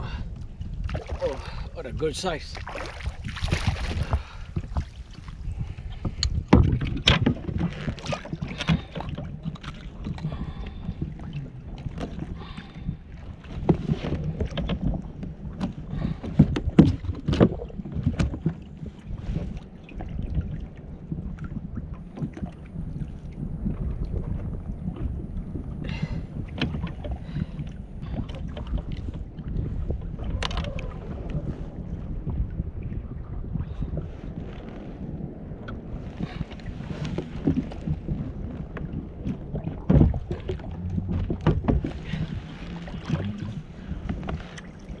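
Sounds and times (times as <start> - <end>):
water against kayak hull: 0.0 - 45.0
wind on microphone: 0.0 - 45.0.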